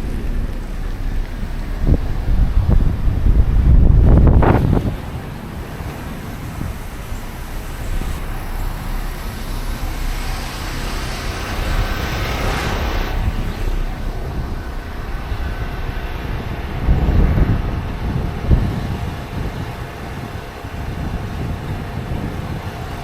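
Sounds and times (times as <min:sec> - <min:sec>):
street traffic rumble: 0:00.0 - 0:23.0
vehicle hissing past: 0:00.0 - 0:23.0.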